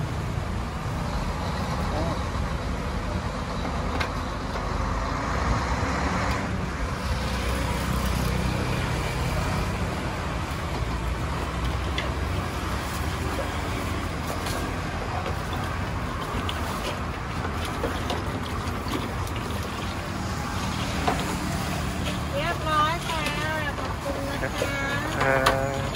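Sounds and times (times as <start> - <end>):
rumble of passing vehicles: 0.0 - 25.9.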